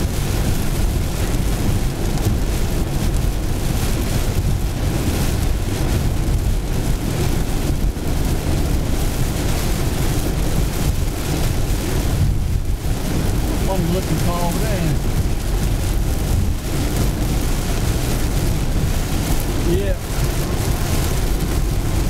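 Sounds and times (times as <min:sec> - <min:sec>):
heavy rain pounding a car: 0:00.0 - 0:22.0
tyre spray and road noise: 0:00.0 - 0:22.0.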